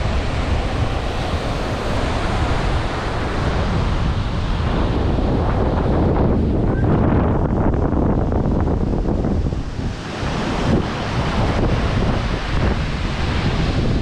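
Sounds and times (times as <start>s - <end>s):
sea surf washing in: 0.0s - 6.6s, 8.2s - 14.0s
wind buffeting microphone: 0.0s - 14.0s.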